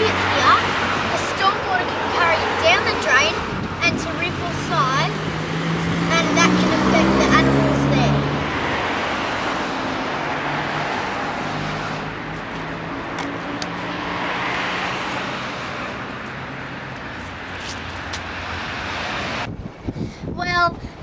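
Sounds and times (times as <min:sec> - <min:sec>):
engine hum: 0:00.0 - 0:20.0
road traffic noise: 0:00.0 - 0:21.0.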